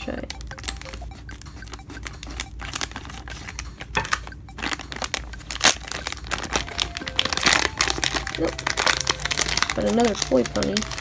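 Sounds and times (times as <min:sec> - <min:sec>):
scissors cutting foil: 0:00.6 - 0:11.0
foil crinkling and rustling: 0:02.1 - 0:11.0.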